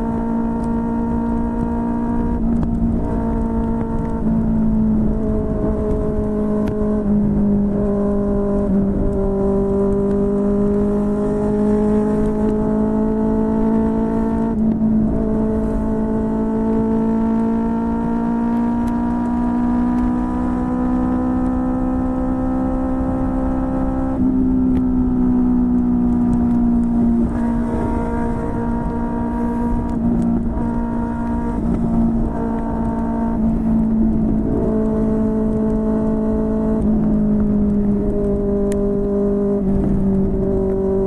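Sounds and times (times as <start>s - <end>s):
motorcycle engine under way: 0.0s - 41.0s.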